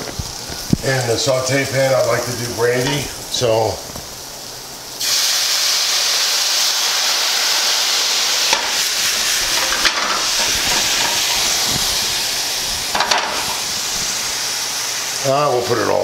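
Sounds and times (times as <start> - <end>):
liquid sizzling in hot pan: 0.0 - 16.0.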